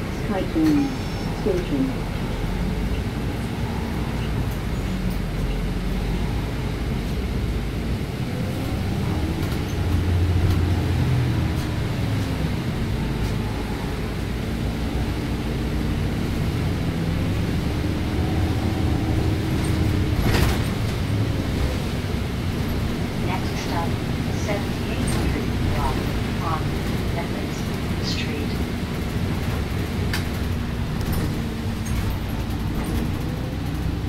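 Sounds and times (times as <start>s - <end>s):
bus engine and road rumble: 0.0s - 34.0s
bus whine rising and falling: 0.0s - 34.0s.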